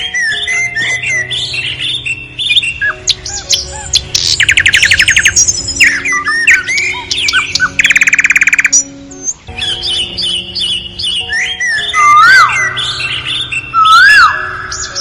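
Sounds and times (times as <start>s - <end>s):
background music: 0.0s - 15.0s
birds chirping and calling: 0.0s - 15.0s
rapid rattling bird trills: 0.0s - 15.0s.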